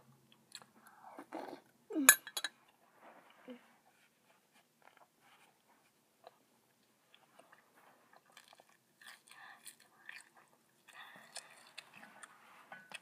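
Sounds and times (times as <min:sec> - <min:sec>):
faint rustling of eating cereal: 0:02.5 - 0:13.0.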